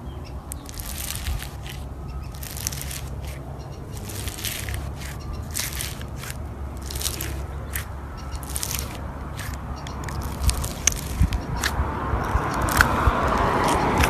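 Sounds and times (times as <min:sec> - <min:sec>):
low steady hum: 0:00.0 - 0:14.0
slime crackling and popping: 0:00.5 - 0:03.4, 0:04.0 - 0:14.0.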